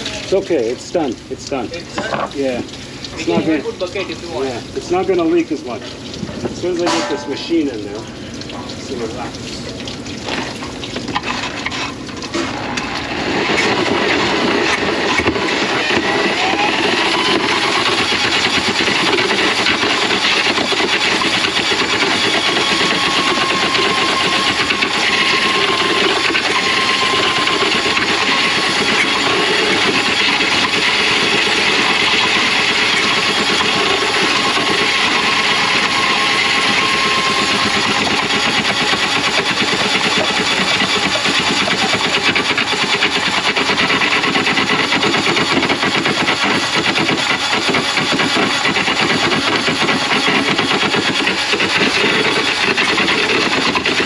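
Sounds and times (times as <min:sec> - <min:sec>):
drain-cleaning machine rattling: 0:00.0 - 0:54.0.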